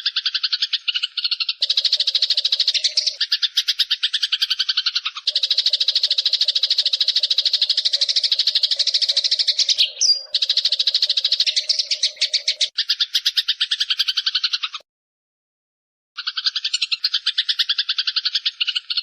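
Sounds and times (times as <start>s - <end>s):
songbird buzzy chattering trill: 0.0s - 14.8s, 16.2s - 19.0s.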